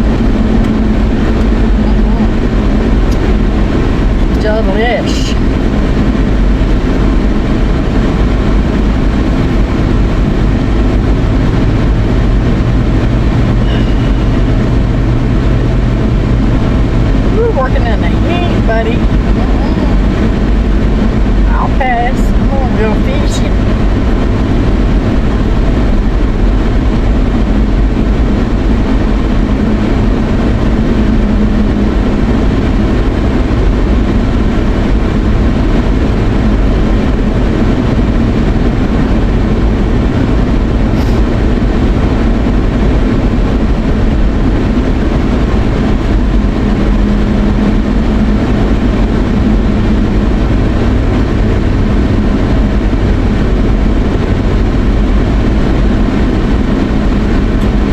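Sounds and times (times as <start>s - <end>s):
car road and engine noise: 0.0s - 57.9s.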